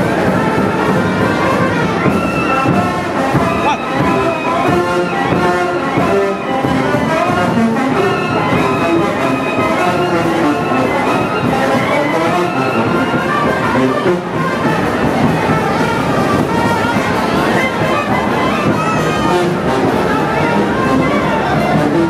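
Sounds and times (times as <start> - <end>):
loud brass band music: 0.0 - 22.0.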